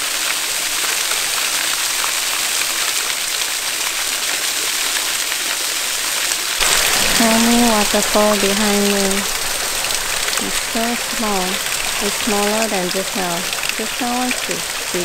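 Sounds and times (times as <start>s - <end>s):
small waterfall splashing onto stone: 0.0s - 15.0s.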